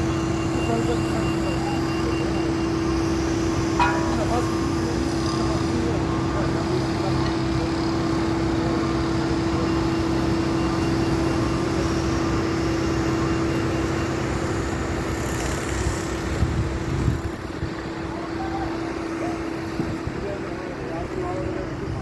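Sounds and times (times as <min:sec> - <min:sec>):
steady mechanical drone: 0:00.0 - 0:22.0.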